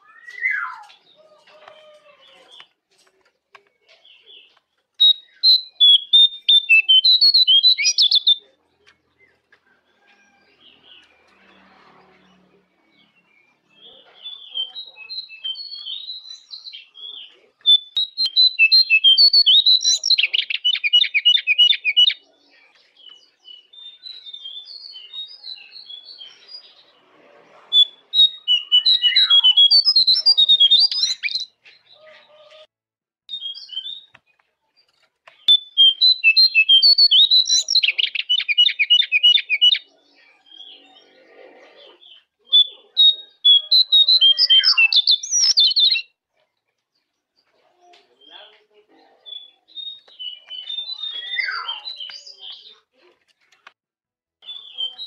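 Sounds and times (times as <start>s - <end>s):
songbird chirps and trills: 0.0s - 32.7s, 33.3s - 53.8s.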